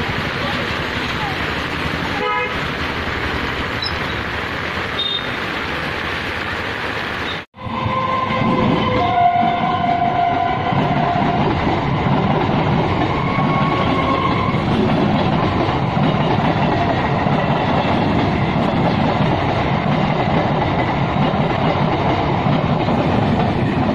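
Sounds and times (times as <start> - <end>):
train rumbling and clattering: 0.0 - 23.9.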